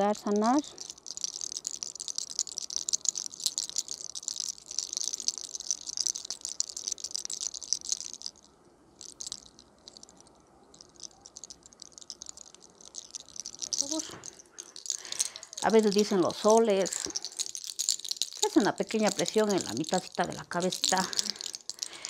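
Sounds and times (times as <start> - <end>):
hair crackling between fingers: 0.0 - 22.0.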